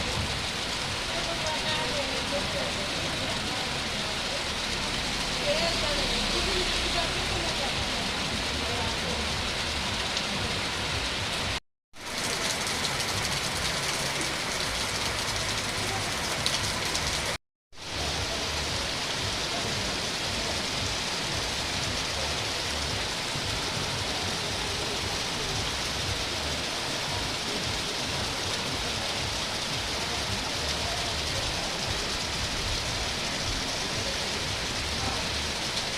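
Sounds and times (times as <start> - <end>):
heavy rain falling: 0.0 - 35.9.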